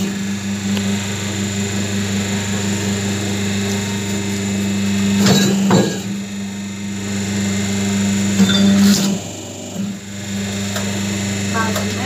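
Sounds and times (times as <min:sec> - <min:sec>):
machine electric hum: 0:00.0 - 0:12.0.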